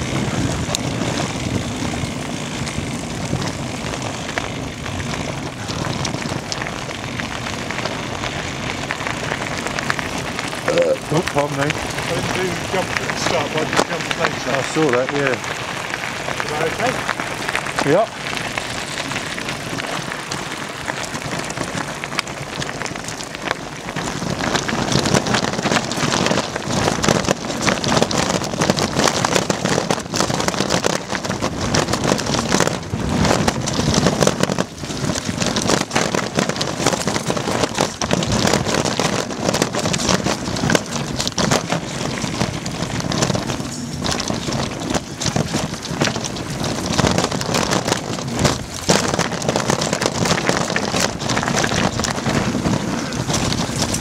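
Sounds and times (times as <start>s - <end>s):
bike tyres clattering over gravel: 0.0s - 54.0s.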